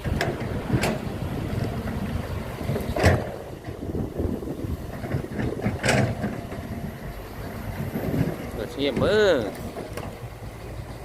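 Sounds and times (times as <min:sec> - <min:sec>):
wind on microphone: 0:00.0 - 0:09.8
low machinery rumble: 0:00.0 - 0:11.0.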